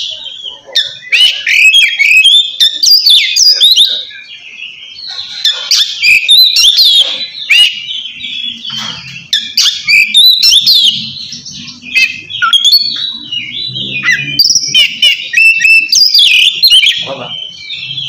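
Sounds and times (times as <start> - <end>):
magpie-robin singing: 0.0 - 18.0.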